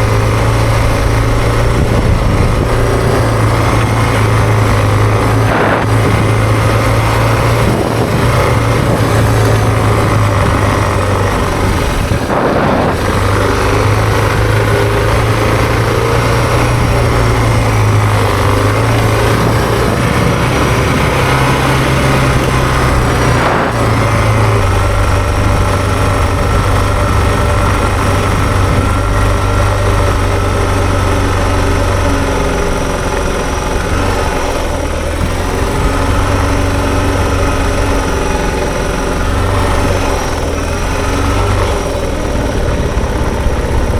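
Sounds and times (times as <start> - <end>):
motorcycle engine running: 0.0 - 43.9
rushing noise: 0.0 - 43.9.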